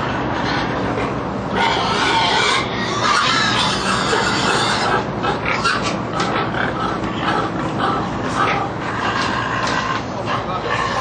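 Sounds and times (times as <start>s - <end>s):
pigs squealing: 0.0s - 11.0s.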